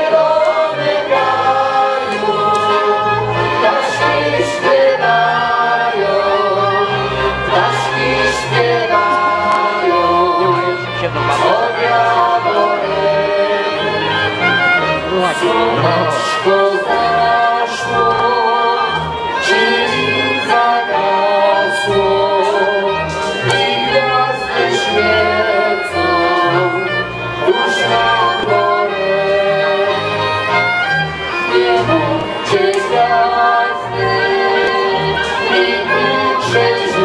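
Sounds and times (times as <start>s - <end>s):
accordion: 0.0s - 37.0s
bagpipe: 0.0s - 37.0s
clarinet: 0.0s - 37.0s
fiddle: 0.0s - 37.0s.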